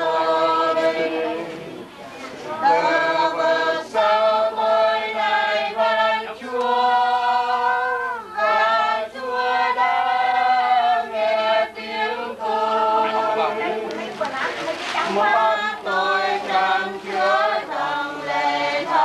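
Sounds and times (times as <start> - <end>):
group singing a hymn unaccompanied: 0.0 - 19.0.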